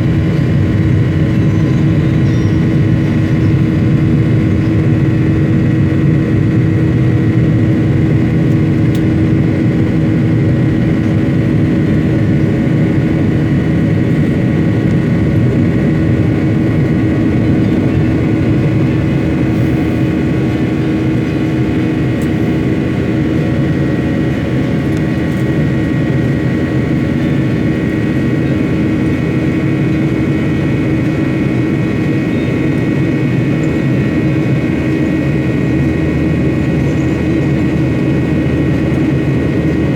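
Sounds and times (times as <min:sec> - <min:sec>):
airliner engines running: 0:00.0 - 0:39.9
steady whining tones: 0:00.0 - 0:39.9.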